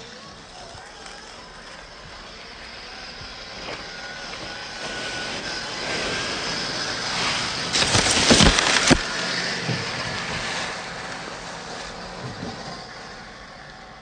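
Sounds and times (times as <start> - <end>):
leaves and twigs crunching: 0.0 - 12.8
rc truck driving: 0.0 - 14.0.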